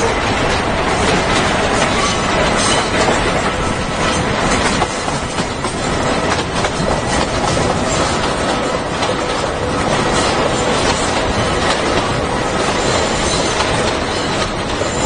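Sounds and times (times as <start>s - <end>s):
train wheels rushing on rails: 0.0s - 15.0s
wheels clicking over rail joints: 0.0s - 15.0s.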